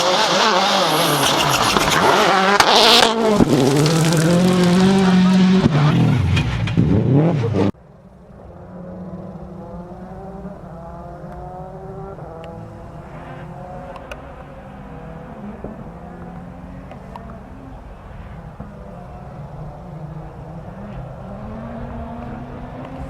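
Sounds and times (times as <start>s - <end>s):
distant car engine accelerating: 0.0s - 23.0s.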